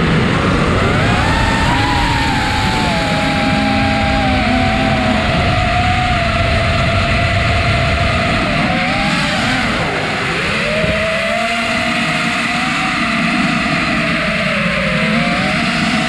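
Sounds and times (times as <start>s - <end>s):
drone propellers whining: 0.0s - 16.0s
wind on microphone: 0.0s - 16.0s.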